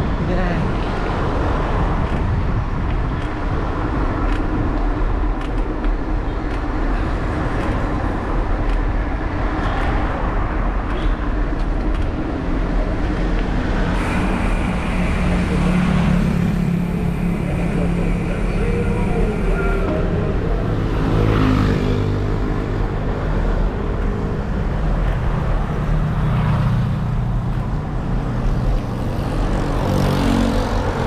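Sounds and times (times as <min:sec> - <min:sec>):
road traffic rumble: 0:00.0 - 0:31.0
vehicle engine hum: 0:00.0 - 0:31.0.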